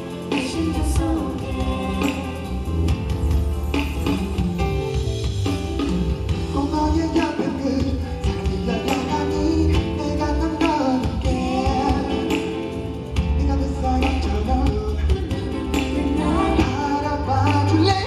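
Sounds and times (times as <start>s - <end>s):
person singing: 0.0s - 3.2s, 5.8s - 18.0s
heavy bass beat: 0.7s - 18.0s.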